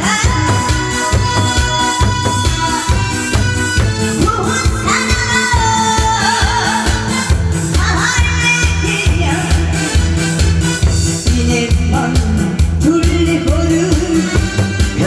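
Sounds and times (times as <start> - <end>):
woman singing with vibrato: 0.0 - 10.2, 11.1 - 15.0
upbeat backing track: 0.0 - 15.0.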